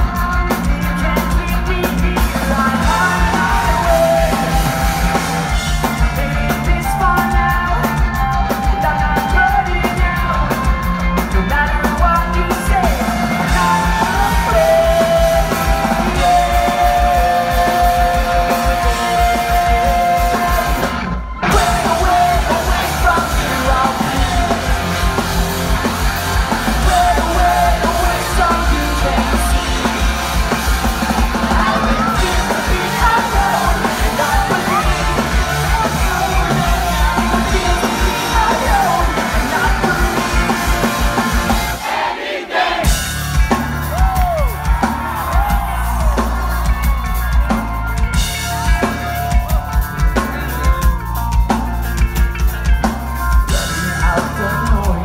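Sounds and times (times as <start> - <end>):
pop-punk band playing live: 0.0 - 55.0.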